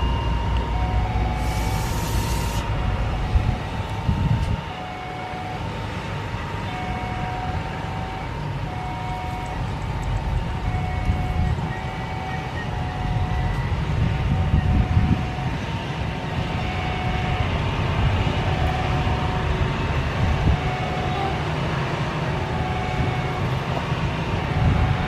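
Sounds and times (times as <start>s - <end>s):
faint jet engine whine: 0.0s - 25.0s
jet engines rumbling: 0.0s - 25.0s.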